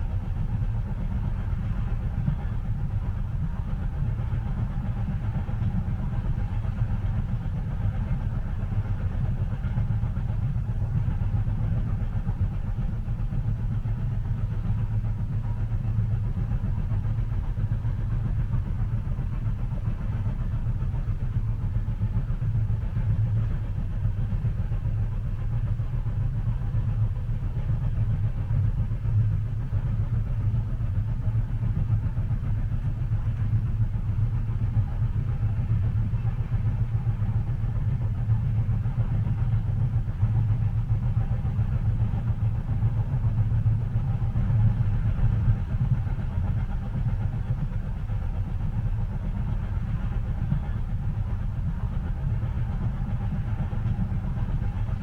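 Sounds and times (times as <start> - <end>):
moving train rumble: 0.0 - 55.0.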